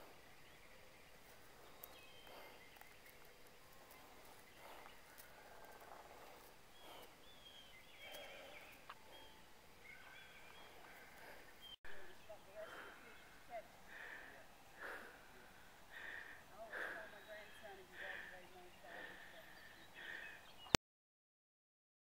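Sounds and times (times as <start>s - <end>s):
faint bird chirps: 0.0s - 20.8s.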